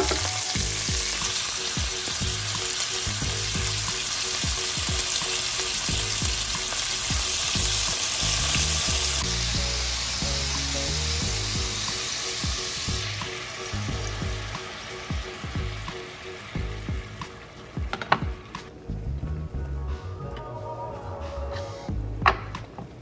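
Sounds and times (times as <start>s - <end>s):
fish sizzling in hot oil: 0.0s - 18.6s.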